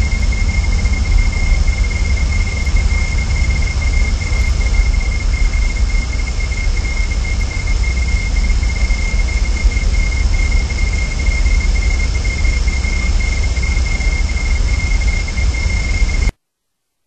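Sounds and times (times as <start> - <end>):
low rumble and hiss: 0.0 - 16.3
thin high whine: 0.0 - 16.4.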